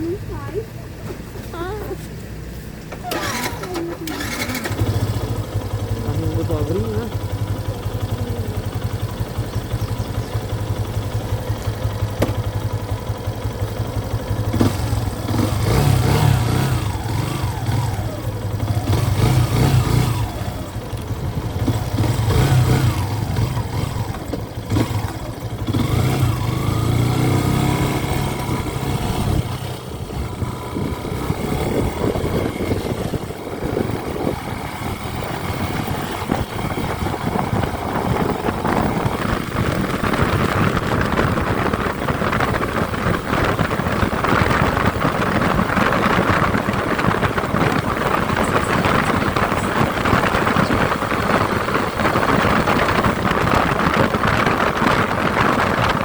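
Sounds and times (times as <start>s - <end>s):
road noise: 0.0s - 56.0s
vehicle engine running: 0.0s - 56.0s.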